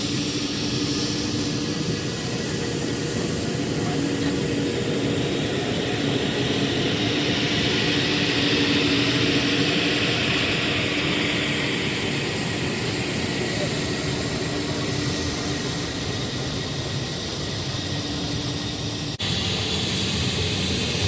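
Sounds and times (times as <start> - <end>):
jet airliner engines: 0.0 - 21.0.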